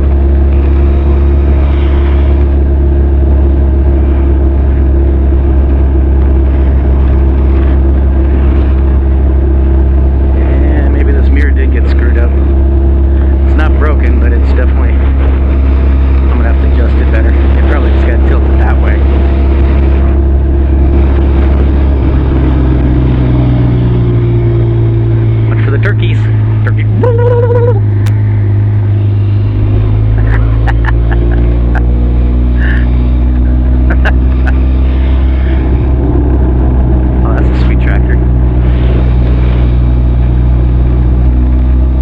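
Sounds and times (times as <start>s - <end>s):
motorcycle engine droning: 0.0s - 42.0s.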